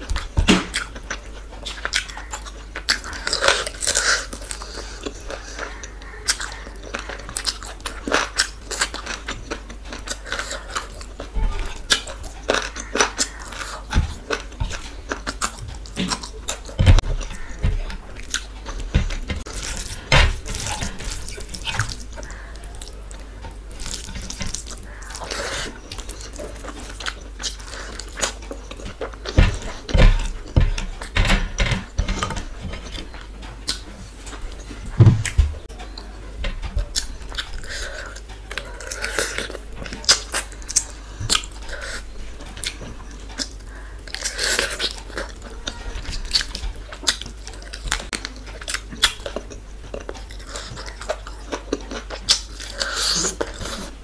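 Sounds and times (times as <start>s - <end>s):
wet chewing and mouth sounds: 0.0s - 54.0s.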